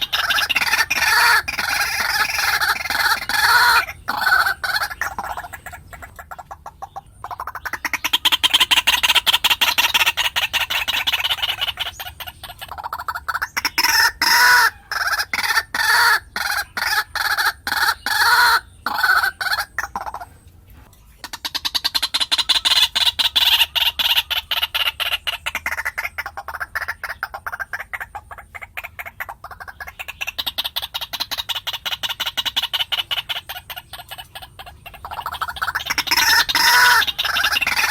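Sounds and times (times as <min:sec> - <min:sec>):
waterhen calling: 0:00.0 - 0:37.9.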